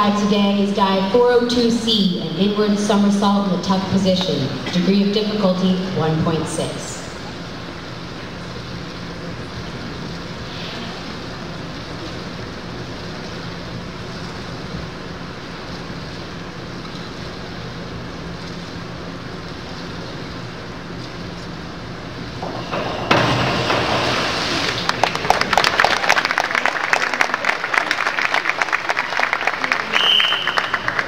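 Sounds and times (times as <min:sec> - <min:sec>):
indoor pool hall hum and hiss: 0:00.0 - 0:31.0.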